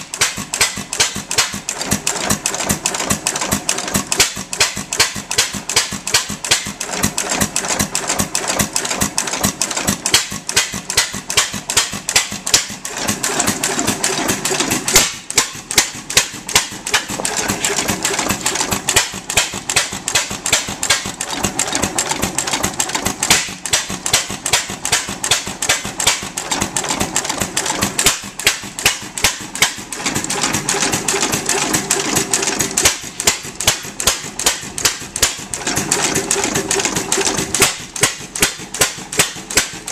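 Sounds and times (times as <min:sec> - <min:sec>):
gas engine clattering: 0:00.0 - 0:39.9.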